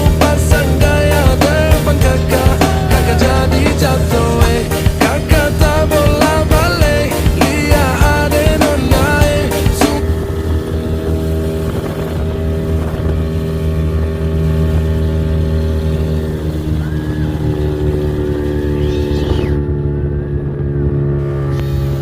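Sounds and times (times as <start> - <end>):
speedboat engine running: 0.0 - 22.0.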